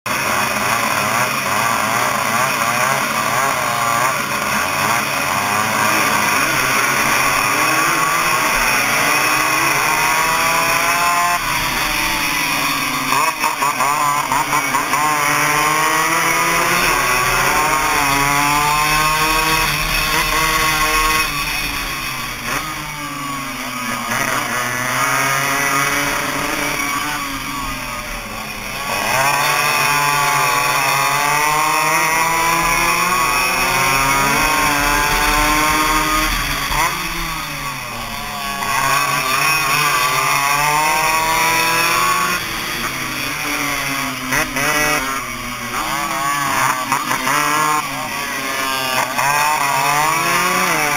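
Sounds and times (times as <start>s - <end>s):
motorcycle engine revving: 0.1s - 50.9s
other motorcycles buzzing: 0.1s - 50.9s.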